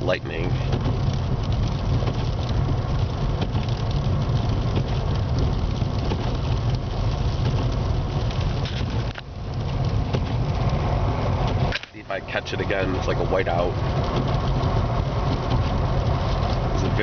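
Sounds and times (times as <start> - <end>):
car cabin rumble and hiss: 0.0 - 17.0.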